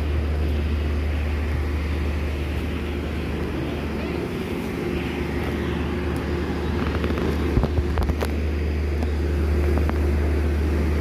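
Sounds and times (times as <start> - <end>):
diesel train engine idling: 0.0 - 11.0.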